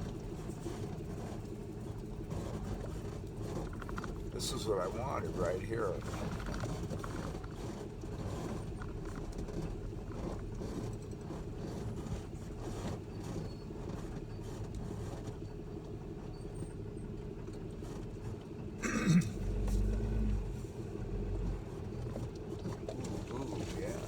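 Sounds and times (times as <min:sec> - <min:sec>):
truck engine running low: 0:00.0 - 0:24.0.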